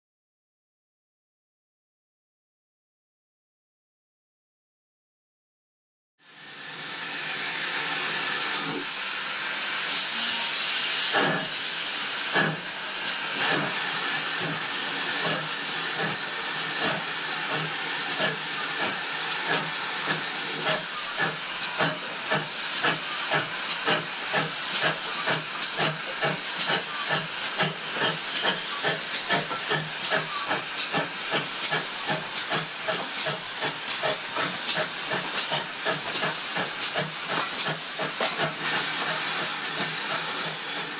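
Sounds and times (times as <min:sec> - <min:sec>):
steam hissing: 0:06.3 - 0:40.9
steam locomotive exhaust beats: 0:06.6 - 0:40.9.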